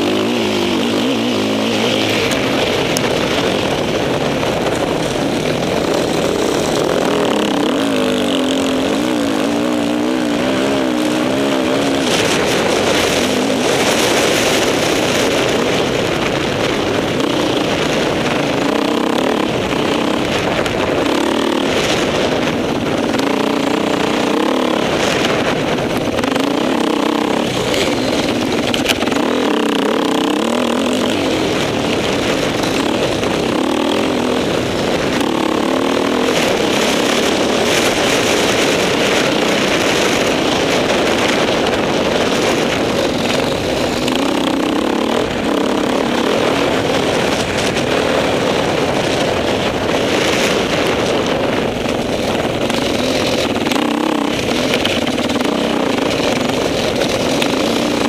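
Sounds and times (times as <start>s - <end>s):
motorcycle engine revving: 0.0s - 58.0s
steady rushing noise: 0.0s - 58.0s.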